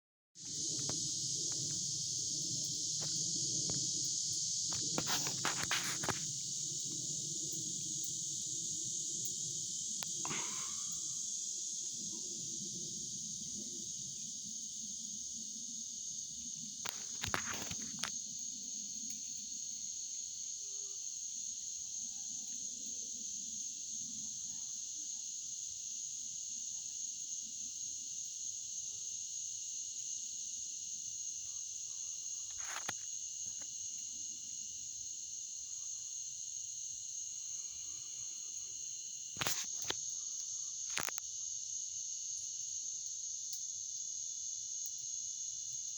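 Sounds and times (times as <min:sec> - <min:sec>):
high-pitched insect chorus: 0:00.4 - 0:45.9.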